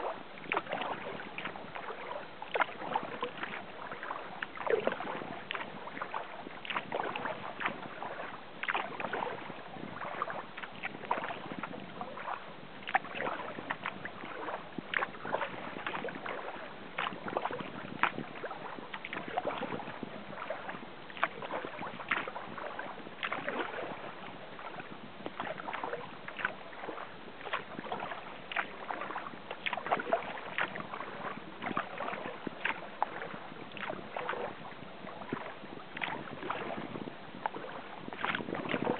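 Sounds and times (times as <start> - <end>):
paddle splashing in water: 0.0 - 38.9.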